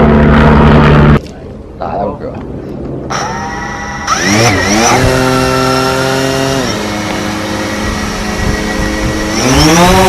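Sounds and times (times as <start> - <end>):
drone propellers buzzing: 0.0 - 1.2, 3.0 - 10.0.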